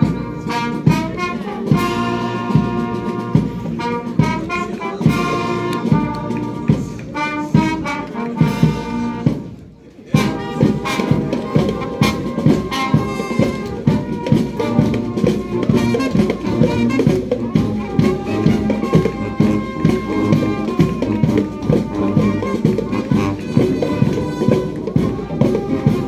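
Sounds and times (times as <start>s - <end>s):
brass band playing a march: 0.0s - 26.0s
steady drum beat: 0.0s - 26.0s.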